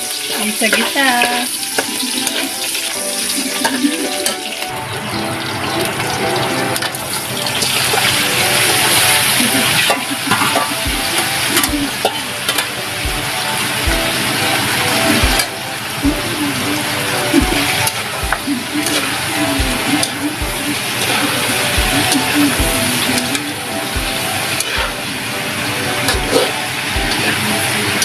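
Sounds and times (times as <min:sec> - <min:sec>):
food sizzling in hot oil: 0:00.0 - 0:04.6, 0:07.0 - 0:28.0.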